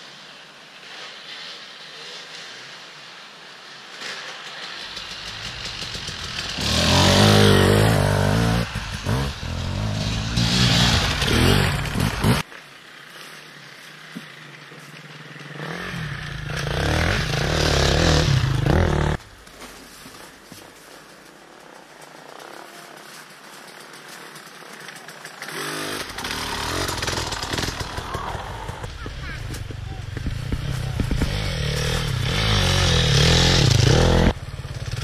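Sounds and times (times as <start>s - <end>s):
motorcycles revving past: 0.0s - 19.2s, 24.4s - 35.0s.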